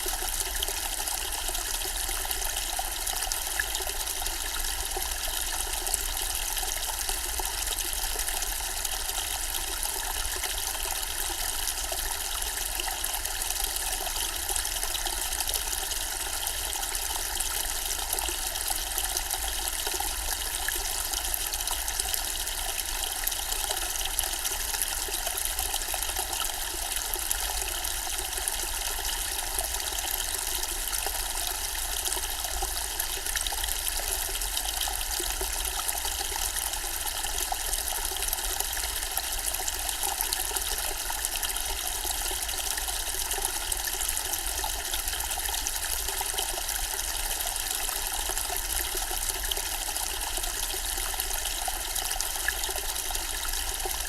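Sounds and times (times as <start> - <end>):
fountain water trickling and splashing: 0.0 - 54.0.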